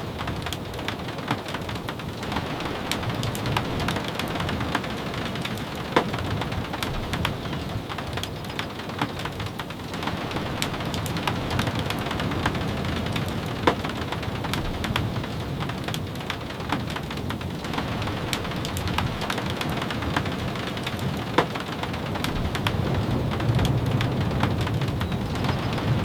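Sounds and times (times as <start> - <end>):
sharp taps of raindrops: 0.0 - 26.0
steady rain: 0.0 - 26.0.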